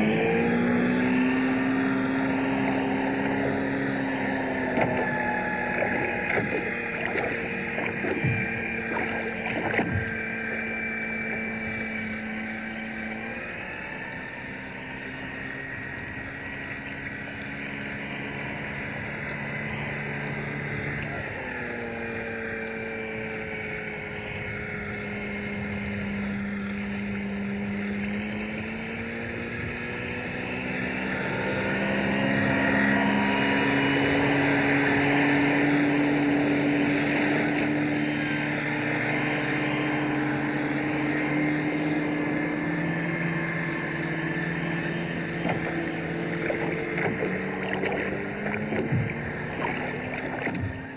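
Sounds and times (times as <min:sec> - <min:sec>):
motorboat engine running: 0:00.0 - 0:50.9.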